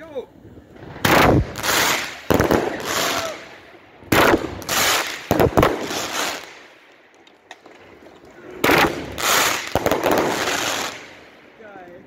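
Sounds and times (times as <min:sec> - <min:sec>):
firework bangs: 0:00.8 - 0:11.5.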